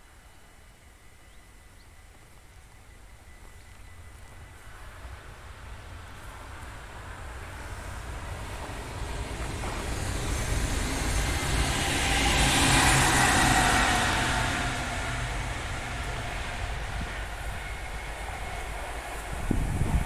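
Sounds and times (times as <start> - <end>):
electric train passing: 0.2 - 20.0.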